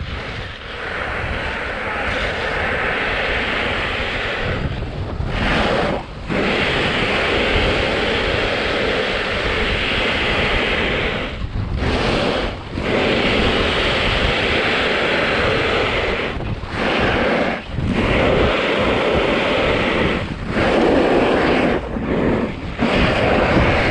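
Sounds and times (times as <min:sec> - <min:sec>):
snowboard edges carving snow: 0:00.0 - 0:23.9
wind on camera microphone: 0:00.0 - 0:23.9.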